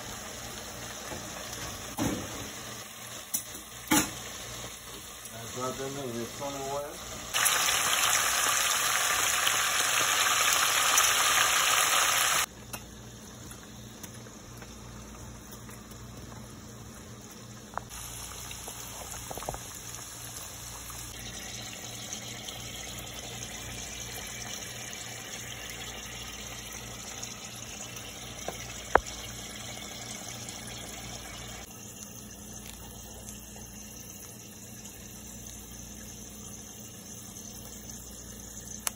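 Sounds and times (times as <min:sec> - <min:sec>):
oil sizzling in a pot: 0:00.0 - 0:38.9.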